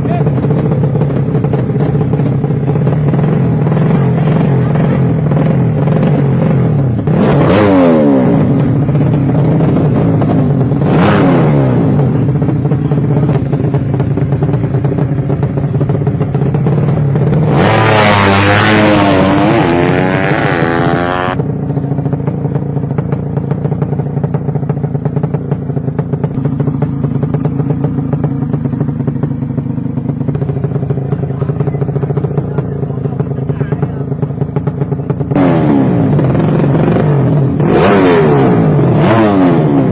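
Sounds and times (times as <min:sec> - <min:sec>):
racing motorcycle engines: 0:00.0 - 0:39.9.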